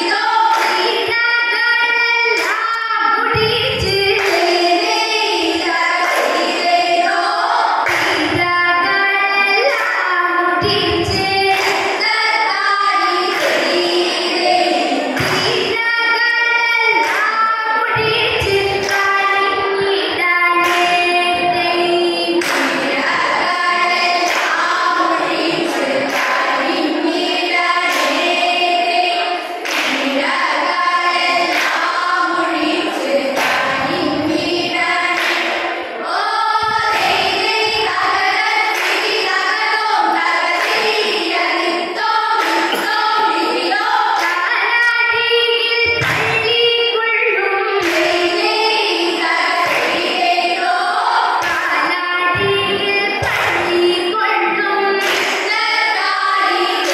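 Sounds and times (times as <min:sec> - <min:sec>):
girls singing in chorus: 0:00.0 - 0:56.9
hand claps: 0:00.1 - 0:07.2, 0:07.8 - 0:21.7, 0:22.3 - 0:29.0, 0:29.6 - 0:45.2, 0:45.8 - 0:46.6, 0:47.7 - 0:56.9.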